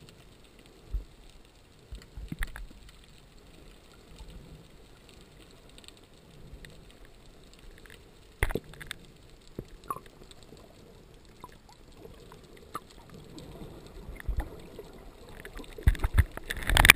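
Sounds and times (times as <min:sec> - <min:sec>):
muffled underwater hiss: 0:00.0 - 0:16.9.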